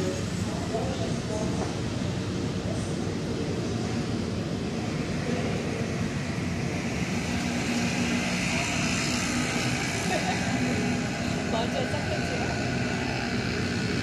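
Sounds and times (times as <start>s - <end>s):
escalator hum and rumble: 0.0s - 14.0s.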